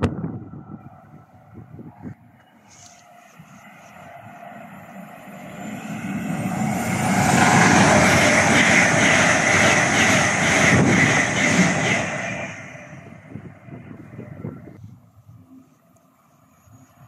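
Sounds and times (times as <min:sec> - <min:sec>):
train passing at speed: 0:00.0 - 0:14.9
wheels rushing on rail: 0:00.0 - 0:17.0.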